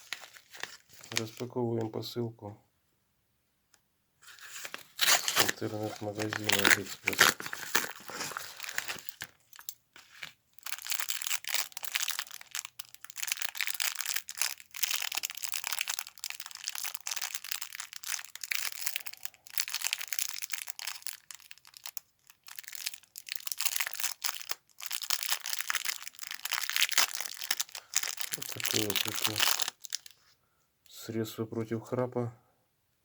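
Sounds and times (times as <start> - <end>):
packaging crinkling and rustling: 0.0 - 1.6, 4.2 - 30.2.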